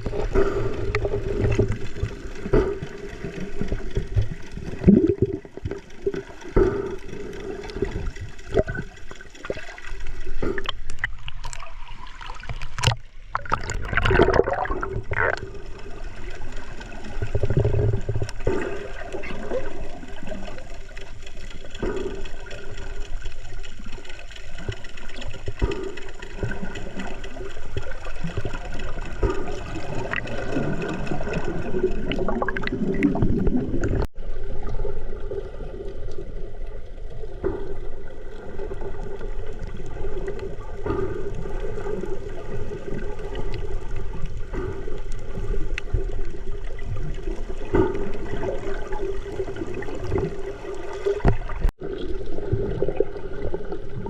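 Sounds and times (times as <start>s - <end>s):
water churning and gurgling: 0.0s - 54.0s.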